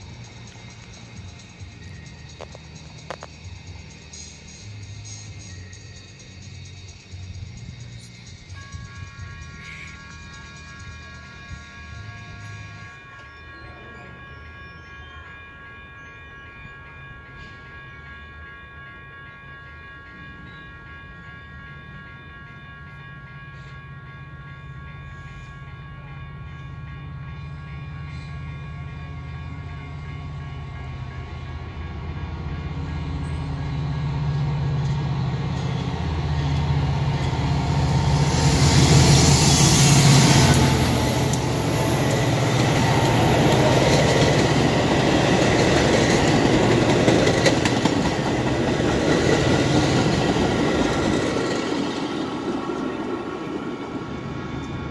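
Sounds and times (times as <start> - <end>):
diesel locomotive engine droning: 0.0 - 54.9.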